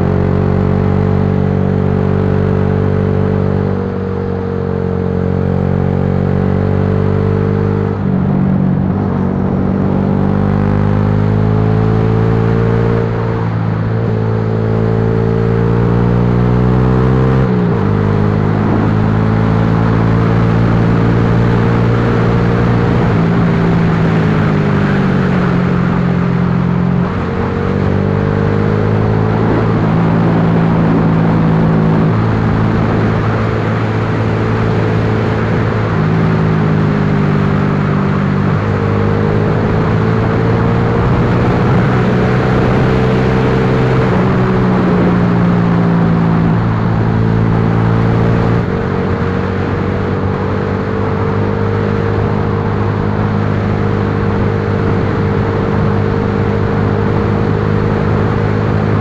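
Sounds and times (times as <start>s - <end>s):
motorcycle engine running: 0.0s - 59.0s
wind rush: 6.7s - 59.0s.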